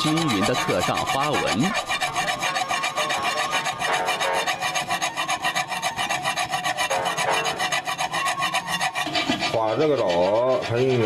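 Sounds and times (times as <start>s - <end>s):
knife rasping through dough: 0.0s - 11.0s.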